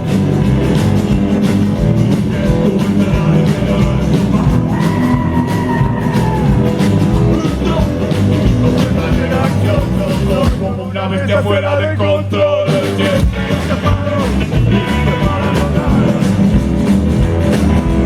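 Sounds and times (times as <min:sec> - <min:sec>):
rock band playing instrumental: 0:00.0 - 0:11.0, 0:12.6 - 0:18.0.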